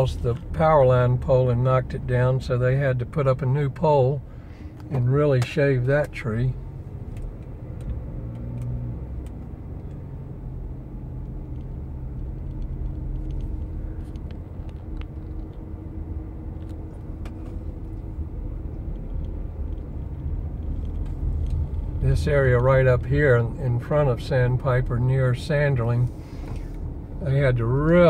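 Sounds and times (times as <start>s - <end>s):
car cabin road and engine rumble: 0.0s - 28.0s.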